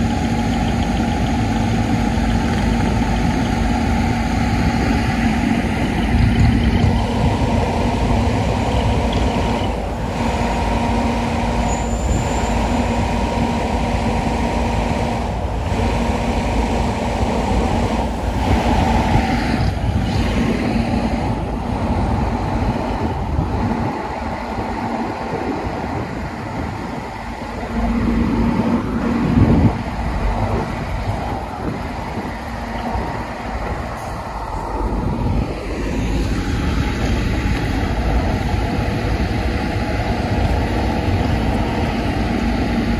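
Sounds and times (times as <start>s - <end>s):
truck diesel engines idling: 0.0s - 42.9s.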